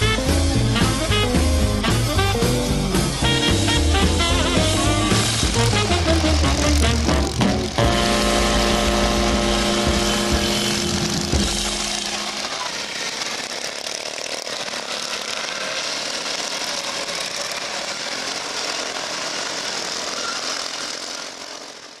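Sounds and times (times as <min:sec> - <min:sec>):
small engines buzzing: 0:00.0 - 0:22.0.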